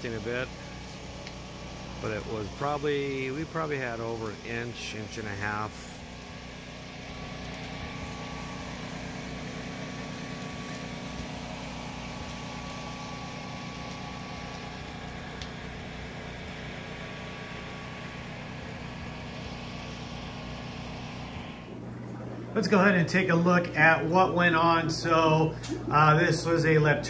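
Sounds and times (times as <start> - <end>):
engine idling: 0.0 - 21.7.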